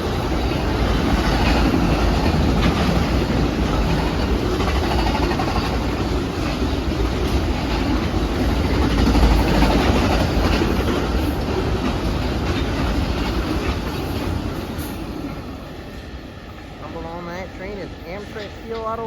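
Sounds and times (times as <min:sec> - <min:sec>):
wheels clacking over rail joints: 0:00.0 - 0:15.6
train rumbling past: 0:00.0 - 0:19.0.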